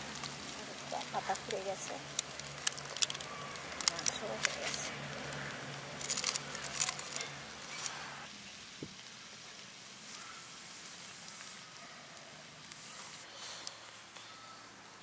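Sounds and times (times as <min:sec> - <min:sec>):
fire crackling: 0:00.0 - 0:15.0
meat sizzling over fire: 0:00.0 - 0:15.0.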